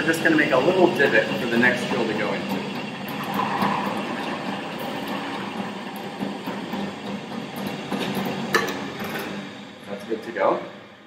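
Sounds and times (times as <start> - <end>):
drill press running: 0.0 - 11.0.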